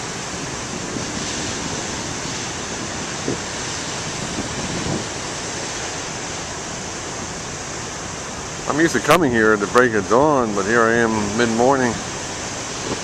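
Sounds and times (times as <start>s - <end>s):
waves breaking: 0.0s - 13.0s
wind on microphone: 0.0s - 13.0s.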